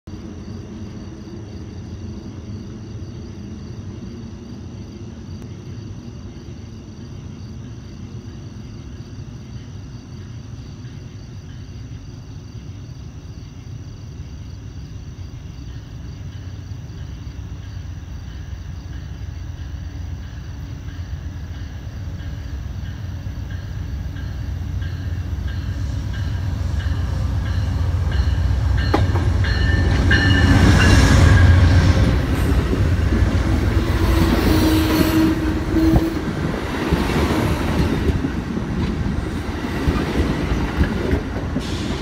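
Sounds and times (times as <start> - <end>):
distant diesel locomotive rumble: 0.1 - 42.0
insects chirping: 0.1 - 42.0.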